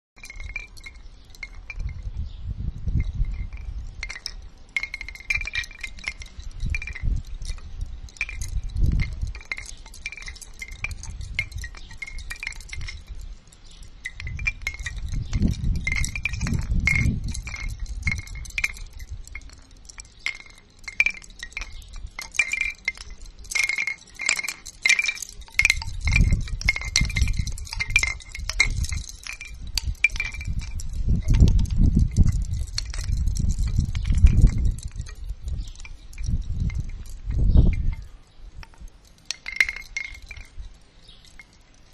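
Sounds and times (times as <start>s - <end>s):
wind rumble on microphone: 0.2s - 41.6s
bamboo wind chime knocking: 0.2s - 41.9s.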